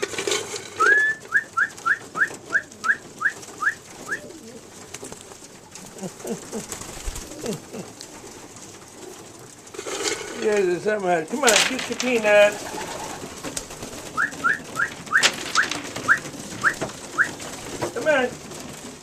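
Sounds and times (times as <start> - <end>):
pigeon cooing: 0.0 - 10.6, 11.6 - 19.0
young pigeons peeping: 0.0 - 19.0.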